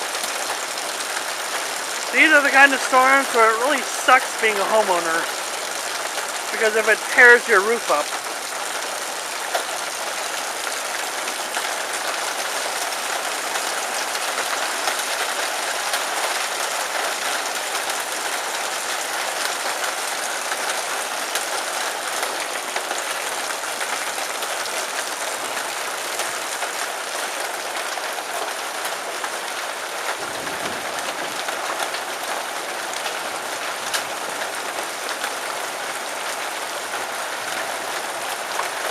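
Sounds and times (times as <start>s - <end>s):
rain and hail on a metal roof: 0.0s - 38.9s.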